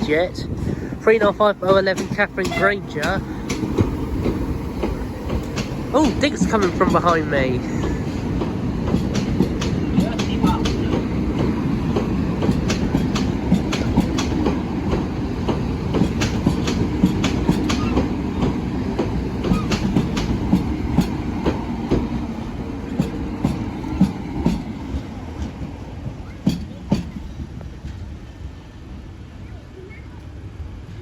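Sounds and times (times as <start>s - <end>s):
wheels clicking over rail joints: 0.0s - 28.1s
electric train rumbling past: 0.0s - 31.0s.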